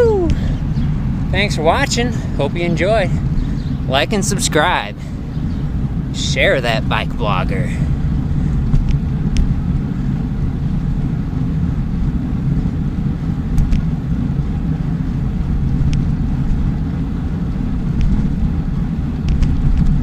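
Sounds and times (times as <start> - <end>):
bicycle road noise: 0.0 - 20.0
wind on microphone: 0.0 - 20.0.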